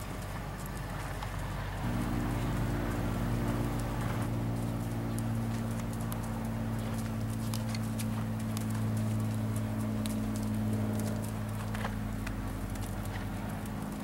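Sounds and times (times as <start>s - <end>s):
horse hooves trotting on sand: 0.0s - 14.0s
low hum: 0.0s - 14.0s.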